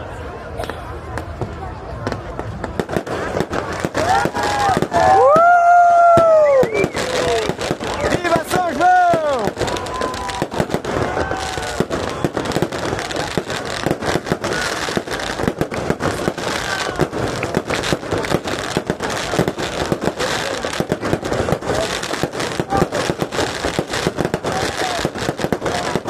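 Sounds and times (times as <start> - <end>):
firecrackers popping: 0.4 - 26.0.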